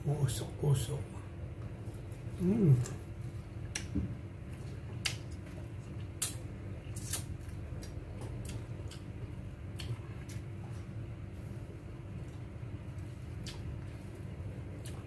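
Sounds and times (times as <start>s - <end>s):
steady low hum: 0.0s - 15.0s
person chewing food: 1.6s - 15.0s.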